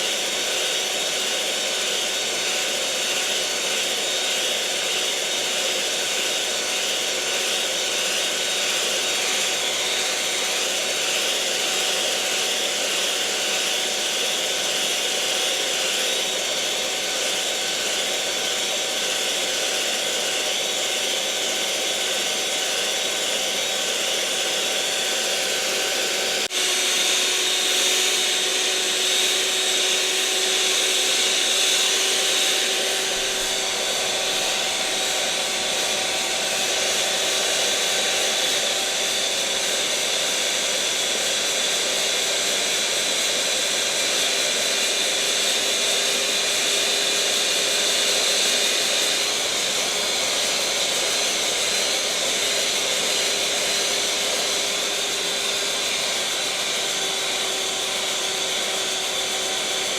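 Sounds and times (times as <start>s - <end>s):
electric mixer motor whirring: 0.0s - 59.9s.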